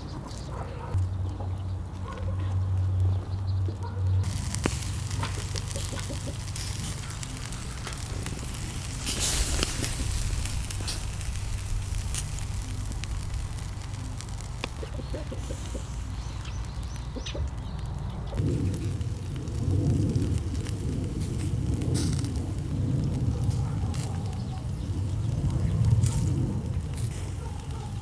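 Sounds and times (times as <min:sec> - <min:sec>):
meat sizzling on grill: 0:04.2 - 0:28.0.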